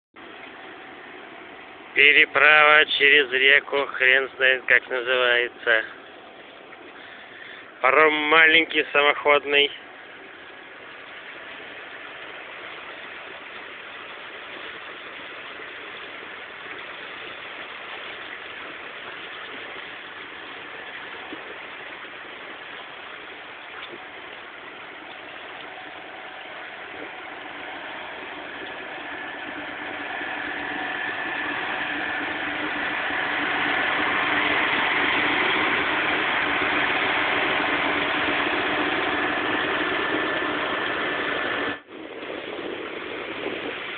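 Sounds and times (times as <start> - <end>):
engine running steadily: 0.2 - 43.9
steady hum: 0.2 - 43.9.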